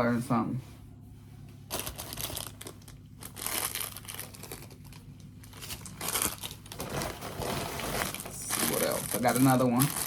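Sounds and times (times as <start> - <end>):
plastic packaging crinkling: 1.7 - 10.0.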